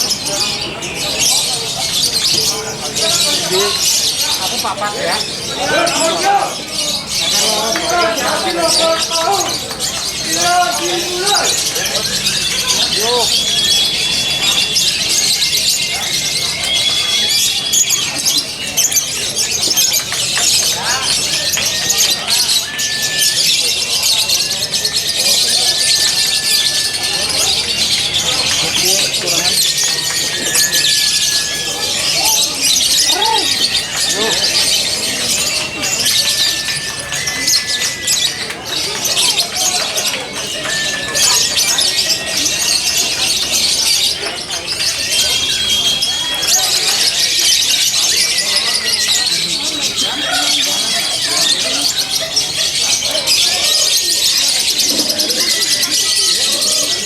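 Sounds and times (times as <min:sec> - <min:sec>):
birds chattering: 0:00.0 - 0:57.0
lovebirds twittering: 0:00.0 - 0:57.0.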